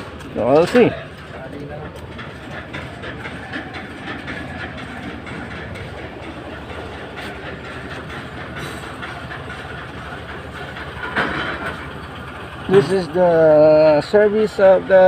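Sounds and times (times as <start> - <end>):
engine idling with rapid clatter: 0.0 - 15.0.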